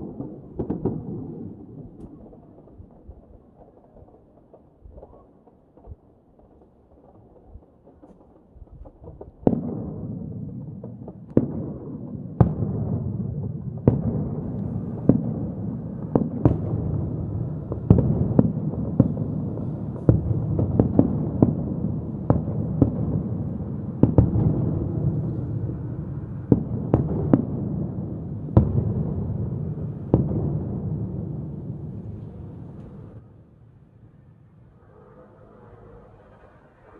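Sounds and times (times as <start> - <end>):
rumble and crackle of fireworks: 0.0 - 36.9.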